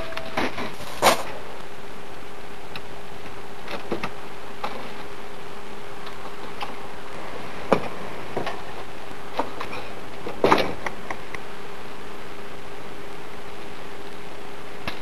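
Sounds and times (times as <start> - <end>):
faint hum: 0.0 - 15.0
steady hiss: 0.0 - 15.0.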